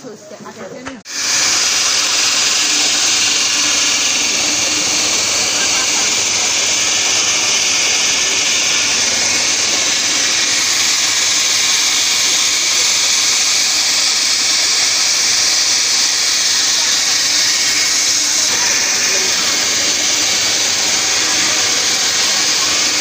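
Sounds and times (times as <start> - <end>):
crowd murmur: 0.0 - 23.0.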